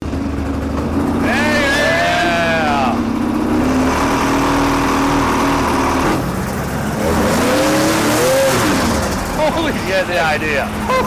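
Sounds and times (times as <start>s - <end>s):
two-stroke engine running: 0.0s - 11.0s.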